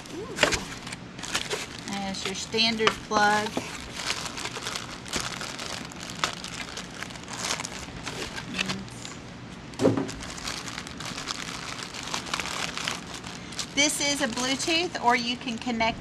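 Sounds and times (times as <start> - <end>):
plastic bags crinkling: 0.0 - 15.9.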